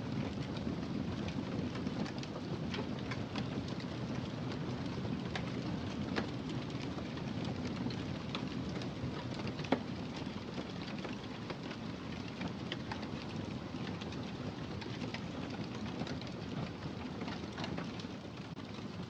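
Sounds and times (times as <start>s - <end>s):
wood fire crackling: 0.1s - 19.0s.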